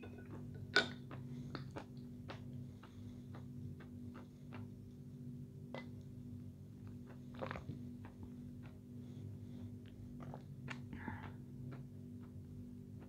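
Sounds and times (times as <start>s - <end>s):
low steady hum: 0.0s - 13.0s
chewing with soft clicks: 0.1s - 13.0s.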